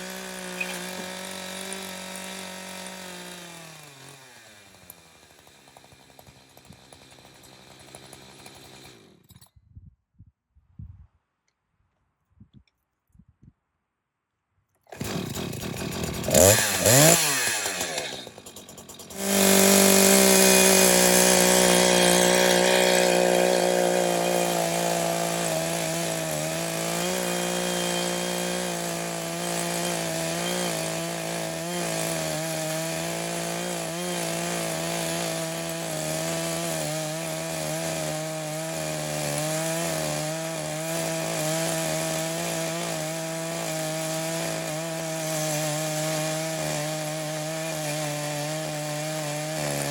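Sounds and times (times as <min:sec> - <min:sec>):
chainsaw cutting wood: 0:00.0 - 0:09.5, 0:14.8 - 0:49.9.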